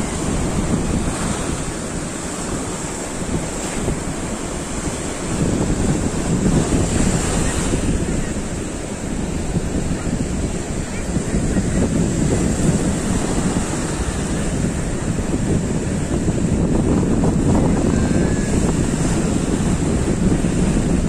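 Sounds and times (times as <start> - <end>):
sea waves breaking: 0.0 - 21.0
wind buffeting microphone: 0.0 - 21.0.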